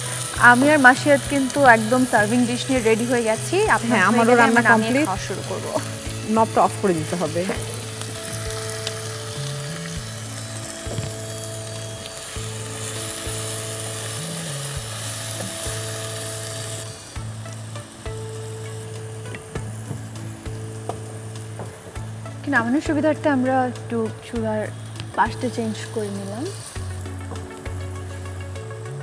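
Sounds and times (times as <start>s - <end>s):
background music of held notes: 0.0s - 29.0s
meat sizzling in a pot: 0.0s - 29.0s.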